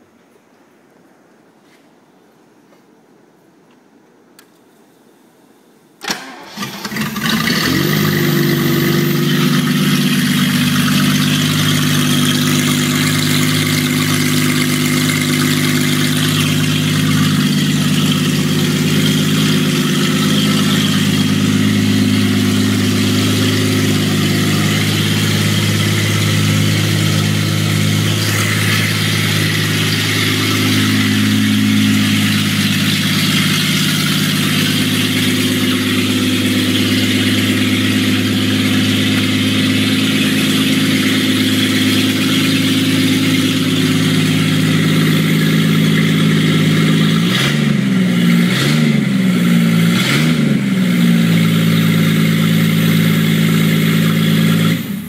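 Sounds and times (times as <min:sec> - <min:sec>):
loud car engine idling and revving: 0:06.1 - 0:55.0.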